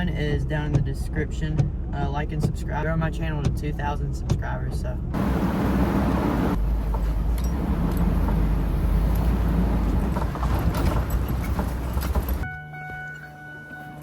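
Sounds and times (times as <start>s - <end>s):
road and wind noise: 0.0s - 14.0s
vehicle driving rumble: 0.0s - 14.0s.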